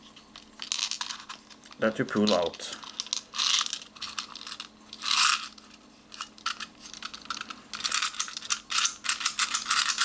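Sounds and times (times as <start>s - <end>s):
steel bbs rattling: 0.6s - 10.0s.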